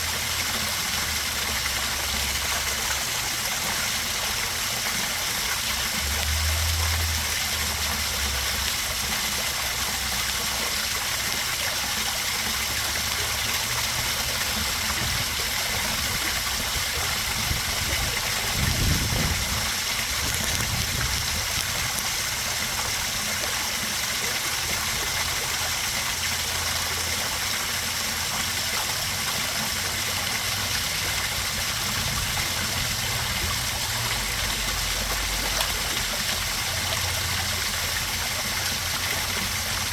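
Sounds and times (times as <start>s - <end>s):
waterfall splashing and trickling: 0.0s - 39.9s.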